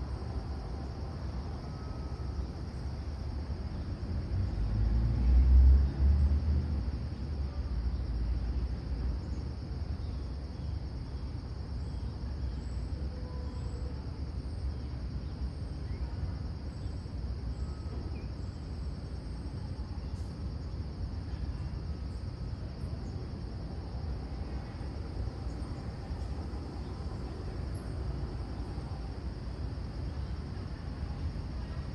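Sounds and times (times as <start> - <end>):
insects chirring: 0.0 - 4.9, 7.2 - 31.9.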